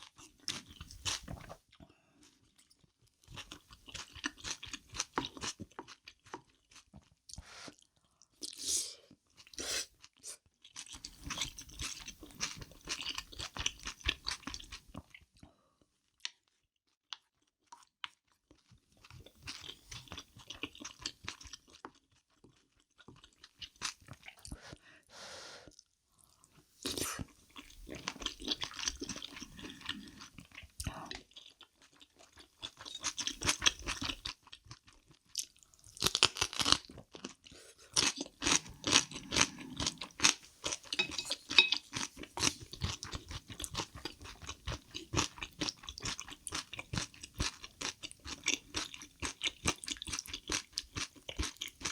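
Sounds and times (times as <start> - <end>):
chewing crunchy food: 0.0 - 24.8, 25.6 - 51.9.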